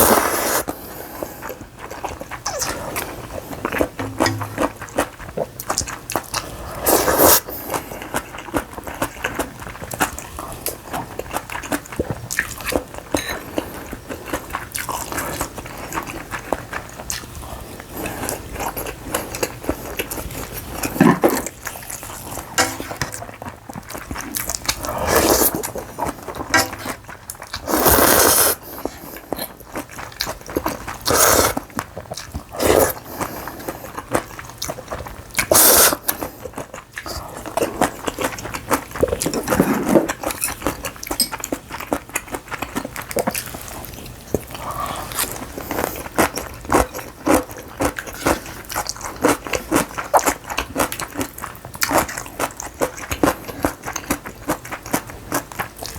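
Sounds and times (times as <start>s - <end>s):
chewing food: 0.0s - 55.9s.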